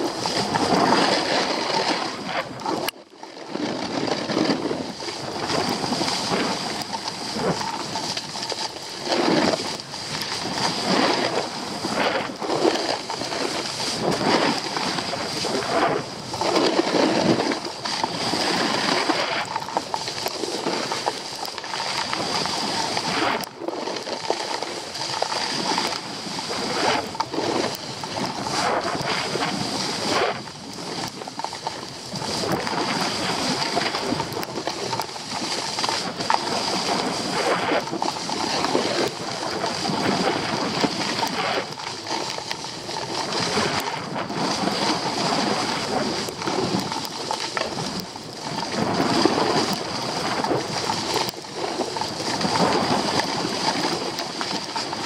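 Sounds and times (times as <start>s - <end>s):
skis scraping over snow: 0.0s - 55.0s.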